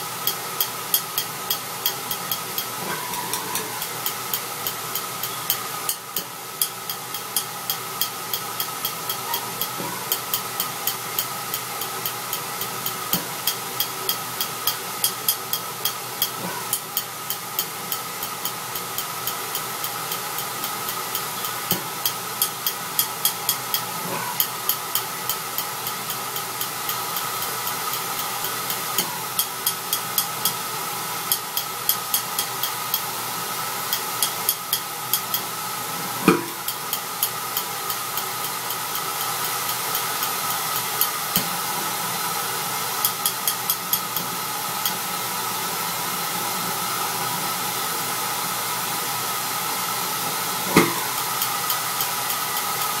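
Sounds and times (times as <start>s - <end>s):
burner flame hissing: 0.0s - 53.0s.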